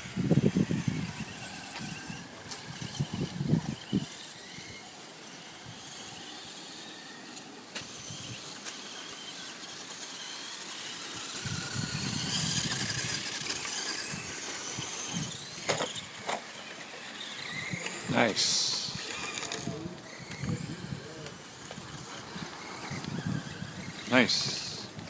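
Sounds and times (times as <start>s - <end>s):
electric motor whine: 0.0s - 25.0s.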